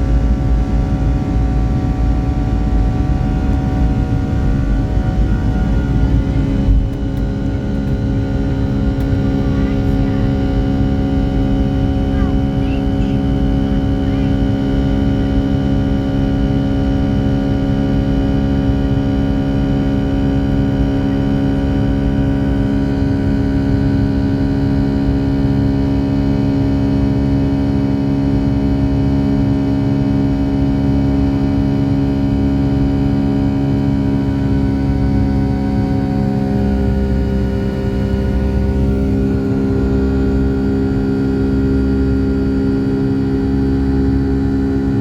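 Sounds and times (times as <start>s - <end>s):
jet engine drone in cabin: 0.0s - 45.0s.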